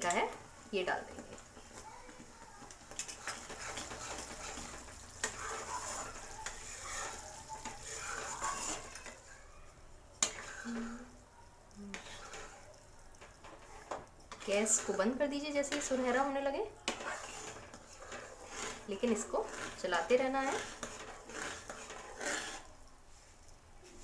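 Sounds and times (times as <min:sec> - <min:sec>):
spatula scraping metal pan: 0:00.0 - 0:09.4, 0:10.2 - 0:11.2, 0:11.9 - 0:22.8
syrup sizzling and bubbling: 0:00.0 - 0:24.0.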